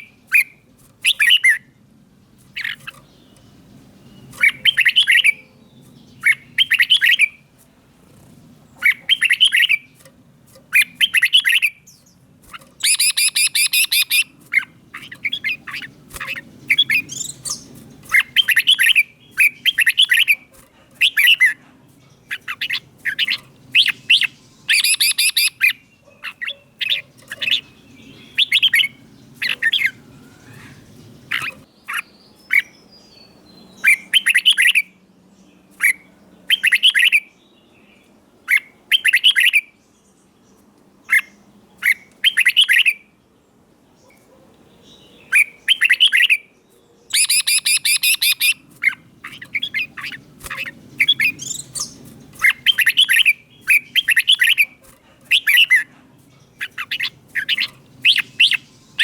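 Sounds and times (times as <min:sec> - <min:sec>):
bird singing warbling phrases: 0:00.0 - 0:07.5, 0:08.1 - 0:43.2, 0:43.9 - 0:59.0
harsh buzzy bird calls: 0:00.0 - 0:39.8, 0:40.5 - 0:59.0.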